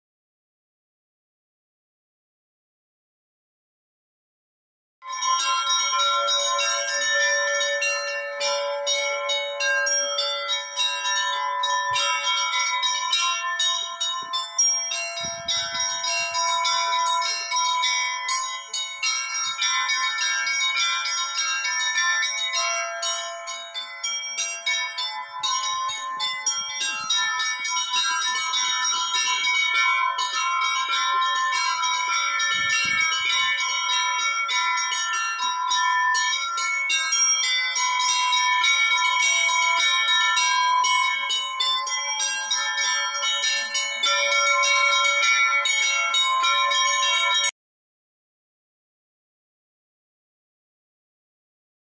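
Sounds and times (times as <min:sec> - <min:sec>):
church bells ringing: 0:05.0 - 0:47.5.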